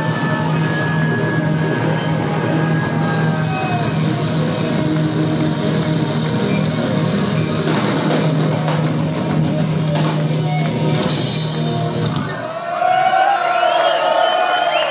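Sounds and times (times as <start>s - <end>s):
live rock band playing: 0.0s - 12.4s.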